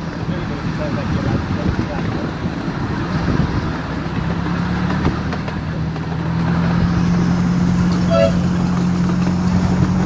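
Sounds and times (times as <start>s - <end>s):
low engine hum: 0.0s - 10.0s
wheels rumbling on rails: 0.0s - 10.0s.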